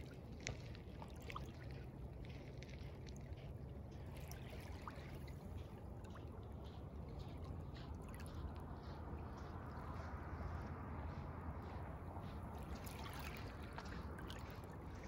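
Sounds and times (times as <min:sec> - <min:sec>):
small waves lapping on shore: 0:00.0 - 0:15.0.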